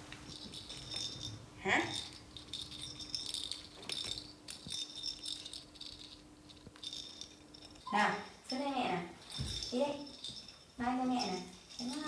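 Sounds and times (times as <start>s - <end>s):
small rattle being shaken: 0.2s - 12.0s.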